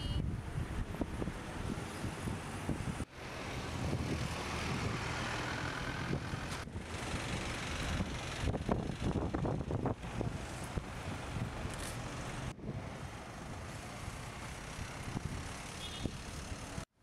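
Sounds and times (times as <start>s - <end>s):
wind buffeting microphone: 0.0s - 13.7s.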